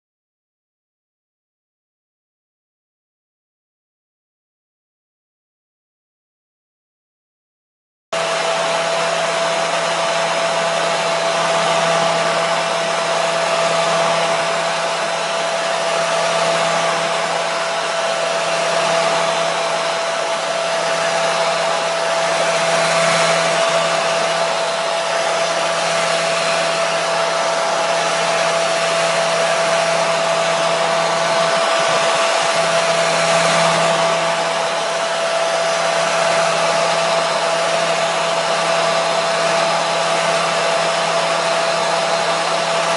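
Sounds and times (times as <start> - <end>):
hair dryer running: 8.2 - 42.9.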